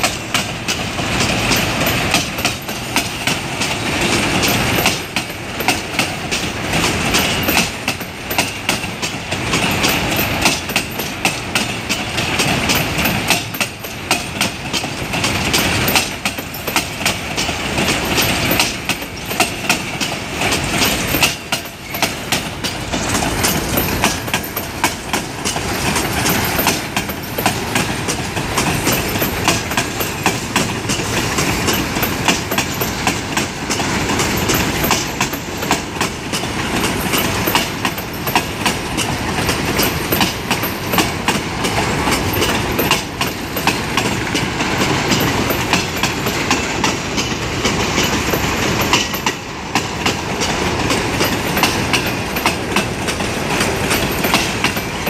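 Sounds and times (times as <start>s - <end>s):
train rolling rumble: 0.0s - 55.0s
train wheels clacking on rails: 0.0s - 55.0s.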